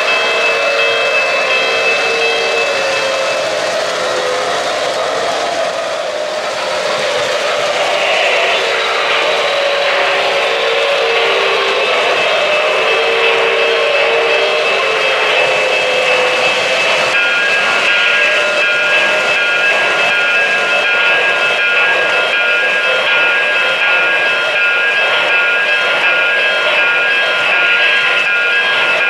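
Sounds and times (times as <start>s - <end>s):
model trains whirring: 0.0s - 29.0s.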